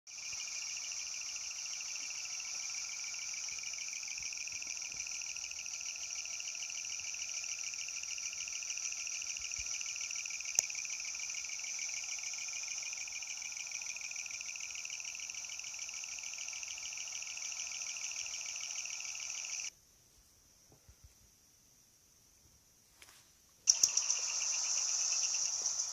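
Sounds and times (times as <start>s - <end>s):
high insect chorus: 0.1s - 19.7s, 23.7s - 25.9s.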